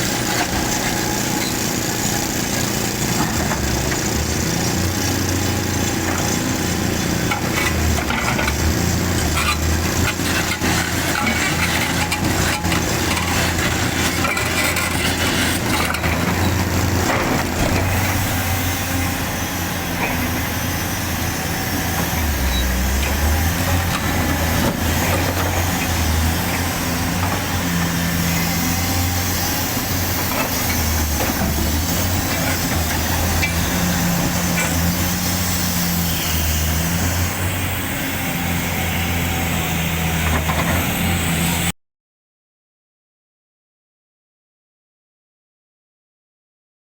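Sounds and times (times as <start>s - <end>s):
excavator diesel engine running: 0.0s - 41.7s.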